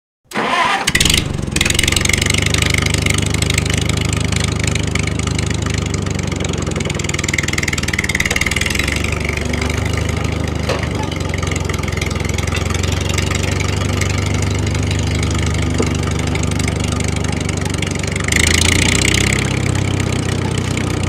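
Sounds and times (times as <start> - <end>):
model tractor engine puttering: 0.3 - 21.0.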